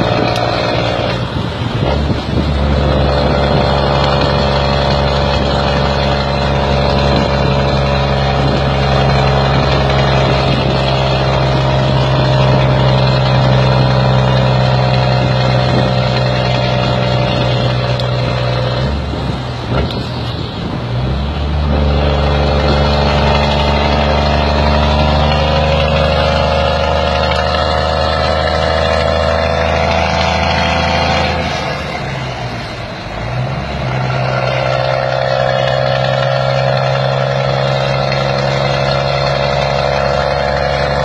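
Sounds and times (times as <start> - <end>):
truck diesel engine rumbling: 0.0 - 41.0.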